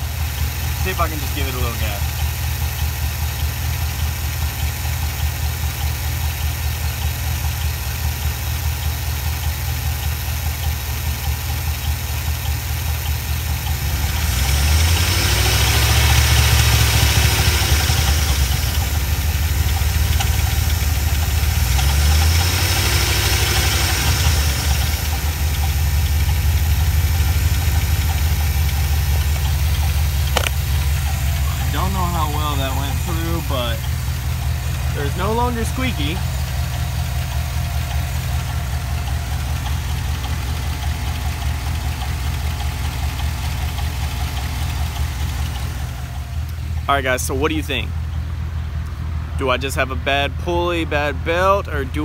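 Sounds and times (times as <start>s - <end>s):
engine ticking: 0.0s - 52.0s
truck engine idling and revving: 0.0s - 52.0s.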